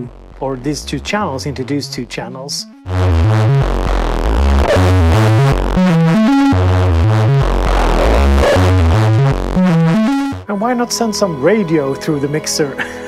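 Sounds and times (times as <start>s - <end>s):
gritty synthesizer bass riff: 0.0s - 10.5s.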